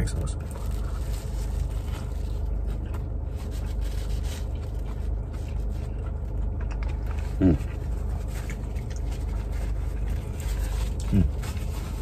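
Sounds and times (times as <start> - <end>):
paper wrapper rustling: 0.0 - 5.9, 7.2 - 12.0
steady low hum: 0.0 - 12.0
person chewing burger: 0.4 - 12.0.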